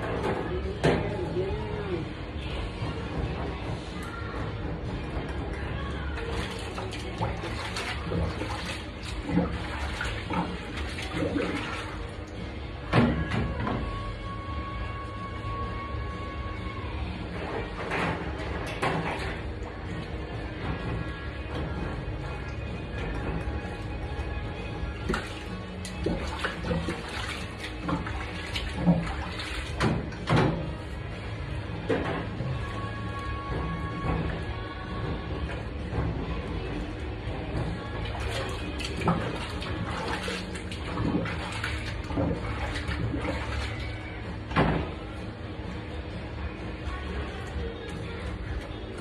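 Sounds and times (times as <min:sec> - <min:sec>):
background music: 0:00.0 - 0:49.0
water sloshing in a sink: 0:00.0 - 0:49.0.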